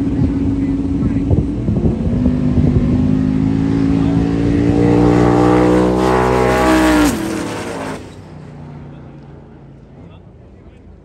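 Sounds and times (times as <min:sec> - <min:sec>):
trucks racing at full throttle: 0:00.0 - 0:11.0.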